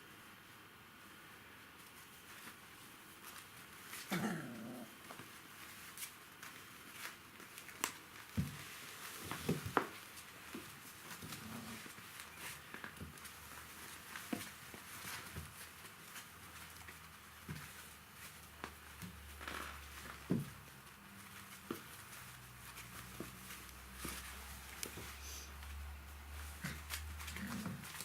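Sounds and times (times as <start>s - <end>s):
puppies shuffling and pattering: 0.3s - 28.0s.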